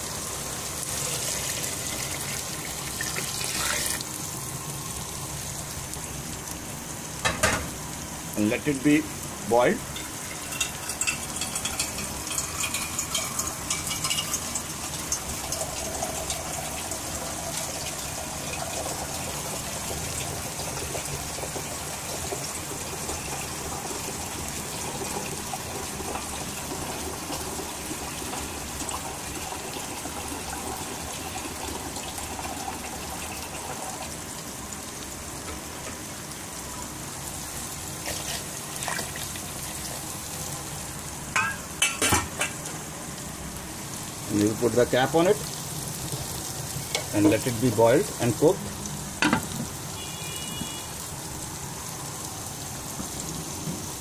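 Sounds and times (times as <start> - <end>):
pot of water boiling: 0.0 - 54.0.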